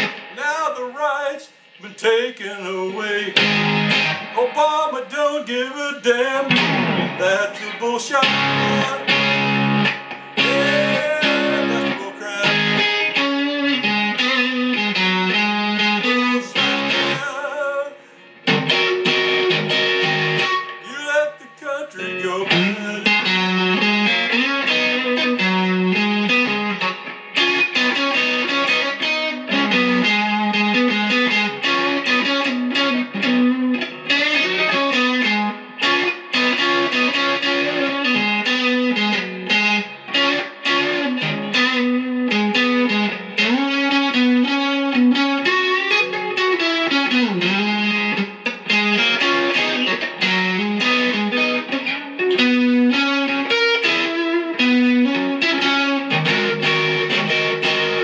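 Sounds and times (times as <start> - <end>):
blues guitar playing: 0.0 - 58.0.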